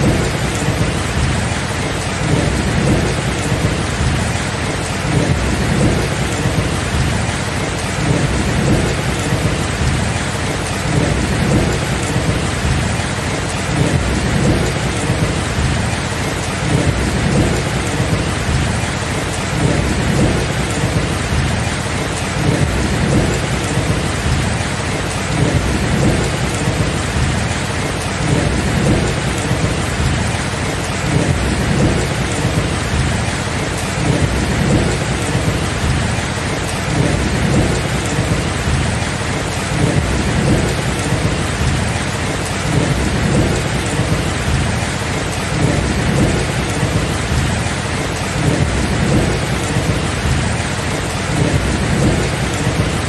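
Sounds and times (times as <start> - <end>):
heavy rain: 0.0 - 53.0
rolling rumble of thunder: 0.0 - 53.0.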